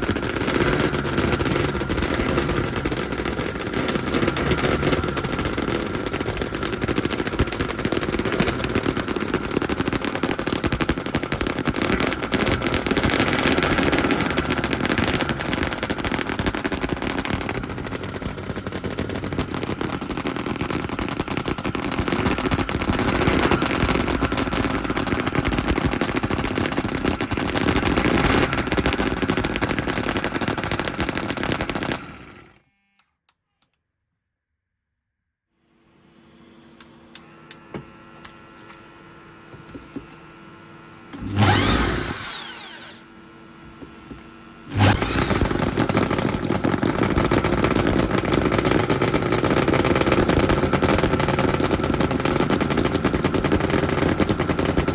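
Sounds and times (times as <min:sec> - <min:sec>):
model engine running fast: 0:00.0 - 0:32.6, 0:41.2 - 0:43.1, 0:44.7 - 0:54.9.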